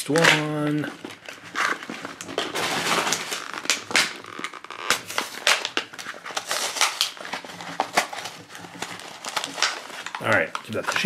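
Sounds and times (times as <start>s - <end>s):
card and plastic clicks and rustles: 0.0s - 11.0s.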